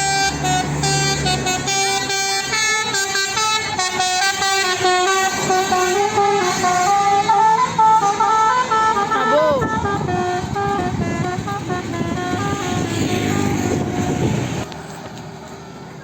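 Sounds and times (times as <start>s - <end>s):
musical air horn melody: 0.0s - 14.6s.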